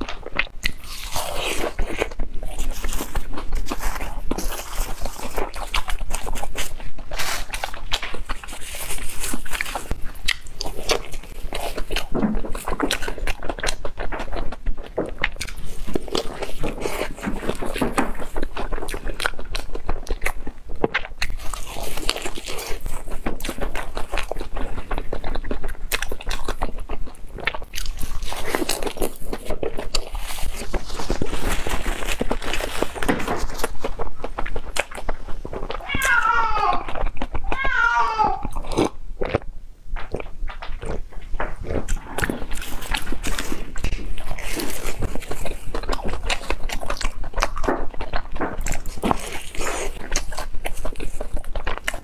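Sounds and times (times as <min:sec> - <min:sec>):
crunchy fried food chewing: 0:00.0 - 0:52.0.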